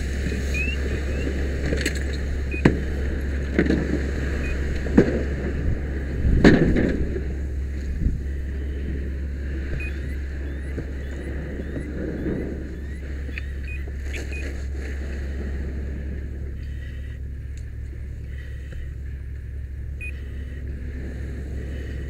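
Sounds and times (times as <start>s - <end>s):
fire engine pump droning: 0.0s - 22.0s.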